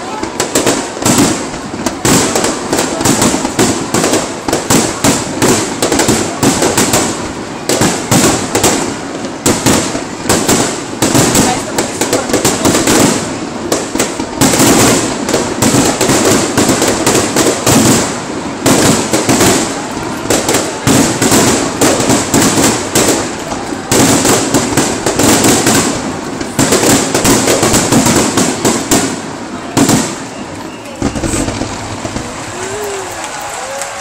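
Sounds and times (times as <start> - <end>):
firework shells bursting: 0.4 - 34.0.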